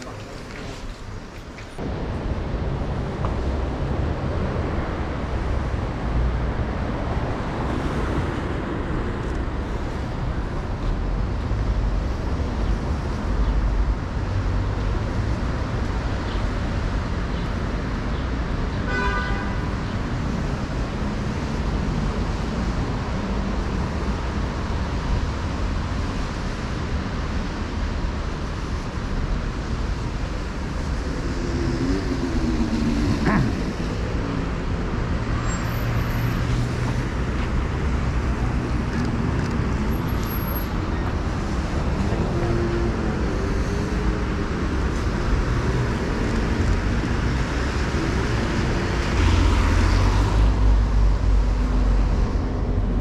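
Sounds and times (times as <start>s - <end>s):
passing vehicles rumble: 0.0s - 53.0s.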